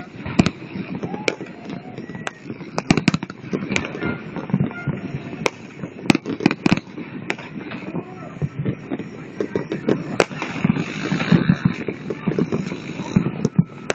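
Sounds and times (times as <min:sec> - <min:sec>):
fireworks bursting bangs: 0:00.0 - 0:13.9.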